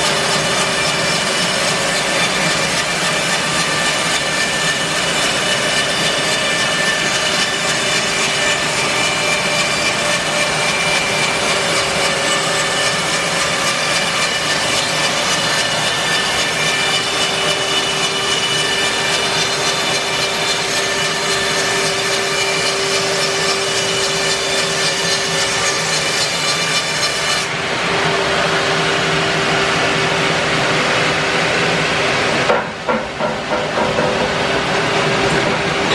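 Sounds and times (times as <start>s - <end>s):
bandsaw mill cutting log: 0.0s - 35.9s.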